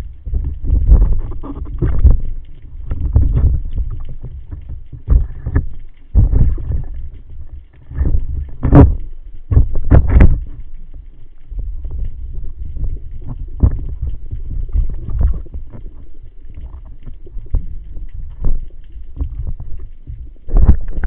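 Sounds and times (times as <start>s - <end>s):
water sloshing and rushing: 0.0s - 21.0s.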